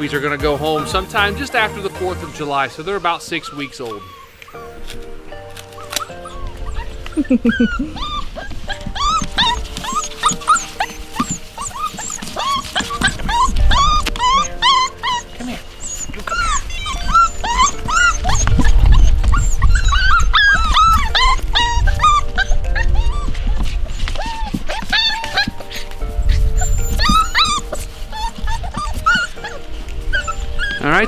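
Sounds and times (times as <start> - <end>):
puppies whining and yipping: 0.0 - 31.0
soft background music: 0.0 - 31.0.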